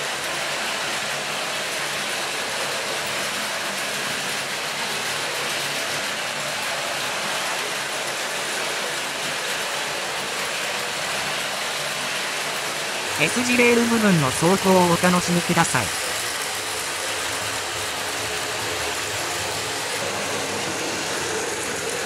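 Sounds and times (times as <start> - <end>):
toy train motors running: 0.0 - 22.0.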